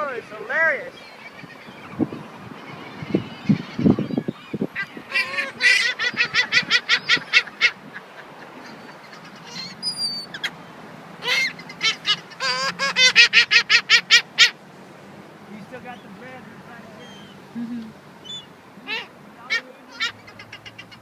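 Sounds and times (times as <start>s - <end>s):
seagulls calling: 0.0s - 14.7s, 15.5s - 21.0s
thin high bird calls: 0.8s - 14.6s, 17.0s - 21.0s.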